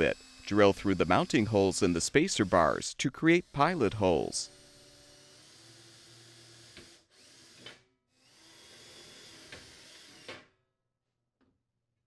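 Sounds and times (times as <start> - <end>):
cordless drill drilling metal: 0.0 - 10.4.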